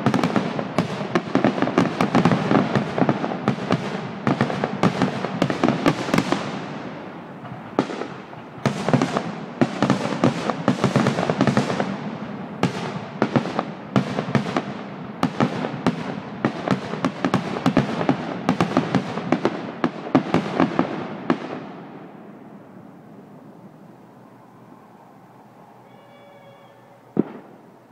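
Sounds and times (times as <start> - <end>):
fireworks bursting: 0.0 - 27.9.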